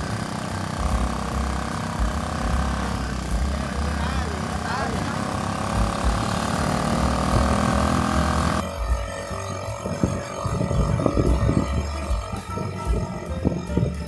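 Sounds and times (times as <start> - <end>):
background music with beat: 0.0 - 14.0
small engine running: 0.0 - 14.0.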